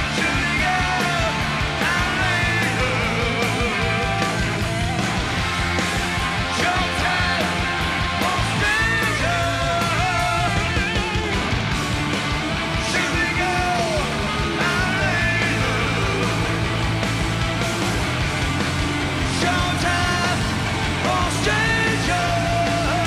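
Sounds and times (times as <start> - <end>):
shouted lead vocal: 0.0 - 11.7, 12.4 - 23.0
hard rock band playing live: 0.0 - 23.0.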